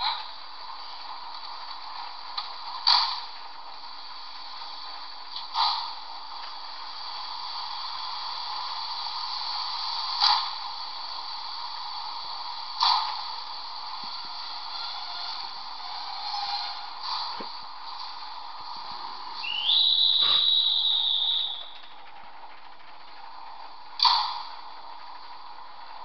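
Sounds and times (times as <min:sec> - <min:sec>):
model railway hissing: 0:00.0 - 0:26.0.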